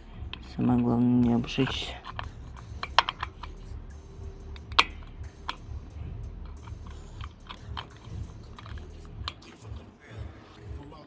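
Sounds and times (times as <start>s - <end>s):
metal parts clicking and tapping: 0.1s - 9.9s.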